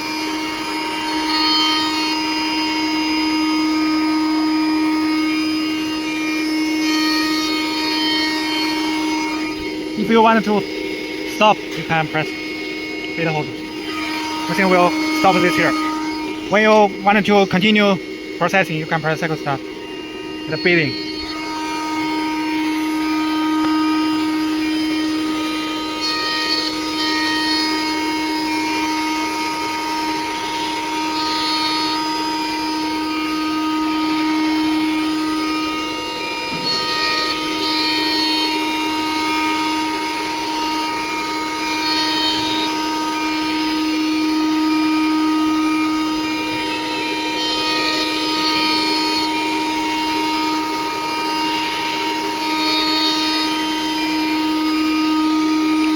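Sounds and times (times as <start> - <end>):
router spindle motor whine: 0.0 - 55.9.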